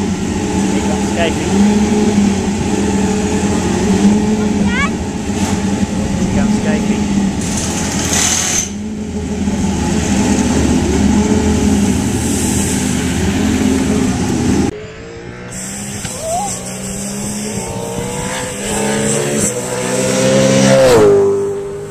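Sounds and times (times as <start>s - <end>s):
race car approaching: 0.0s - 21.9s.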